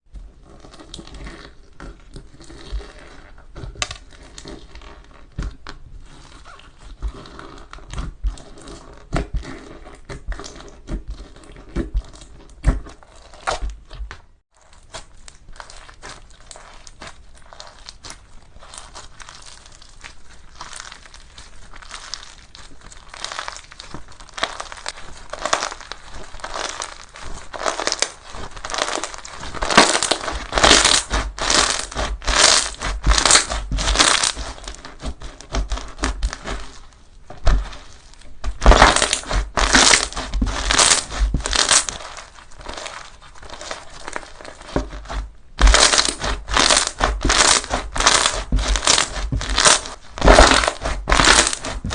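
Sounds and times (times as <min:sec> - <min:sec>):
slime squishing: 0:00.1 - 0:51.9.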